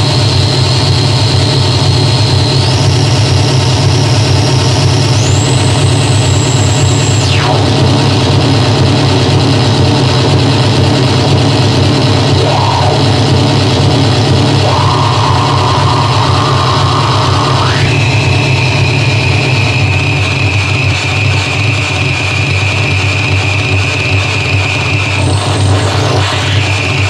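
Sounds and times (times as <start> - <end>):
filtered synth tone sliding: 0.0 - 27.0
low synthesizer drone: 0.0 - 27.0
distorted synthesizer hiss: 0.2 - 27.0.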